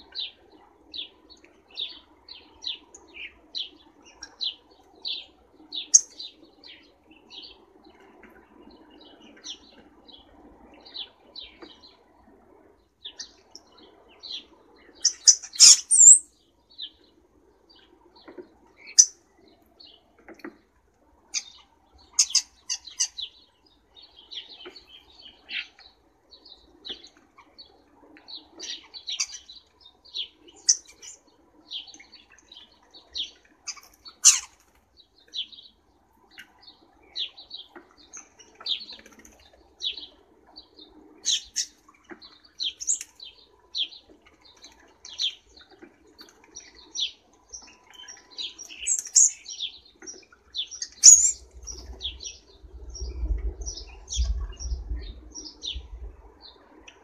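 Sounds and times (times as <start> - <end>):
starlings chirping and calling: 0.0 - 12.1, 13.0 - 17.1, 17.7 - 20.5, 21.3 - 57.0.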